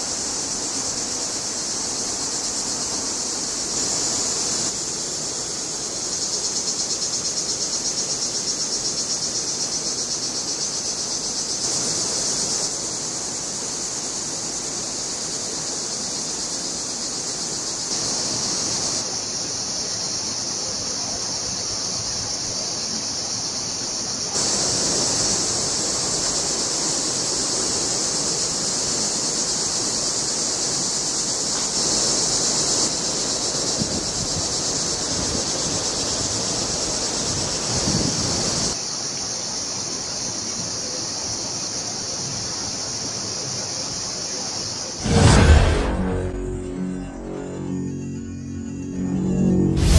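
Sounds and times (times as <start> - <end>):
high pulsing insect chorus: 0.0 - 49.9.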